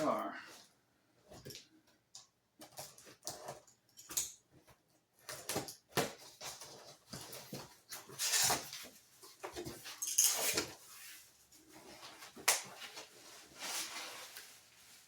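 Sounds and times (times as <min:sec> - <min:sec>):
box and packaging being handled: 0:00.6 - 0:15.0.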